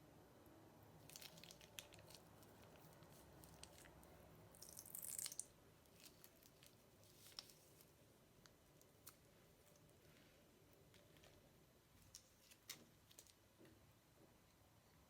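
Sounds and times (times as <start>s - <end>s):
slime crinkling and crackling: 1.0s - 13.4s.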